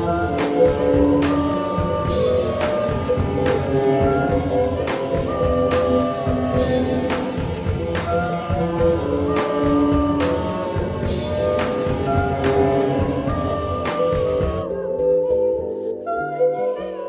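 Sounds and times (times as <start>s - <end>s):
sustained electronic tones: 0.0s - 17.0s.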